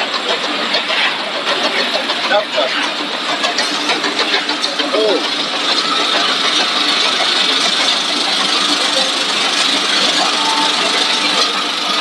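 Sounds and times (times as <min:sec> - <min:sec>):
machinery motors humming: 0:00.0 - 0:12.0
steady machine hiss: 0:00.0 - 0:12.0.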